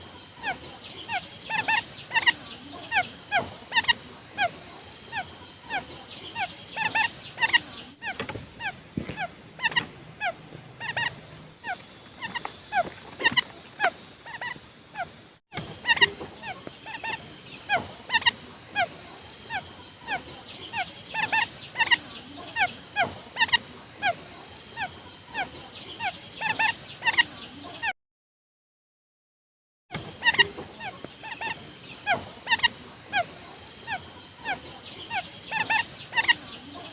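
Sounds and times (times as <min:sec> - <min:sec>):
quail calling: 0:00.0 - 0:27.9, 0:30.0 - 0:36.9.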